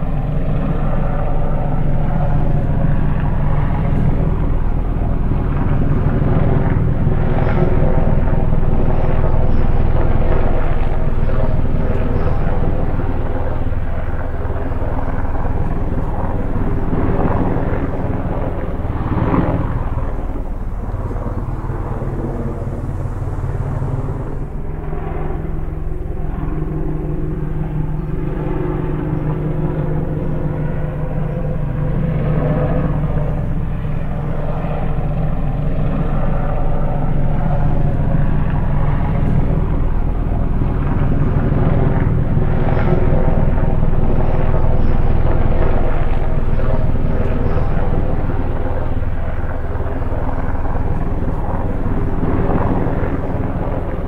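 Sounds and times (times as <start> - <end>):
drone propeller hum: 0.0 - 54.0.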